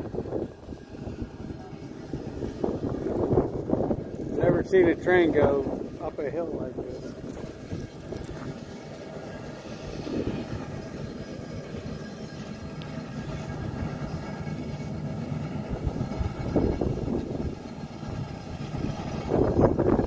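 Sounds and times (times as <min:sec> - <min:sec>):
cog railway train climbing: 0:00.0 - 0:20.0.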